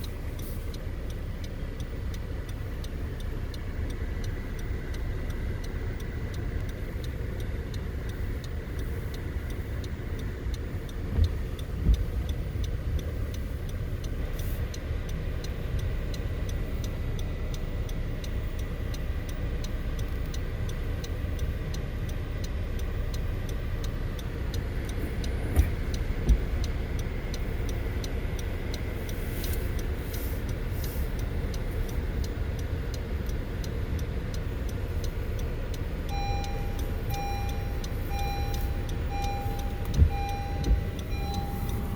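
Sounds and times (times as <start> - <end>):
car road rumble: 0.0 - 41.9
fast even ticking: 0.0 - 41.9.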